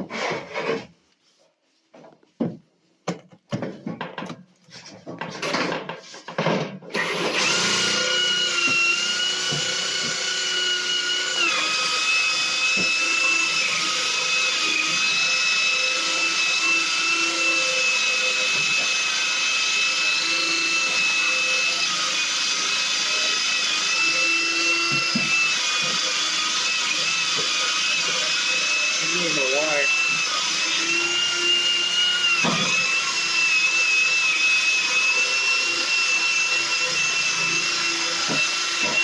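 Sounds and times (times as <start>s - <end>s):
electric drill grinding tile: 4.8s - 39.0s.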